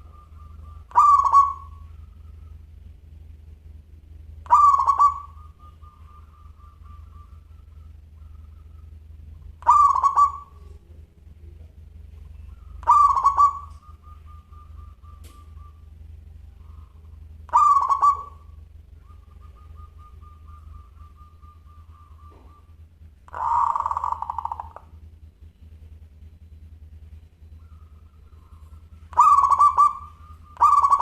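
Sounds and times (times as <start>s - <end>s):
dove cooing: 0.0s - 3.4s, 4.2s - 31.0s
faint rapid rolling trill: 0.0s - 31.0s.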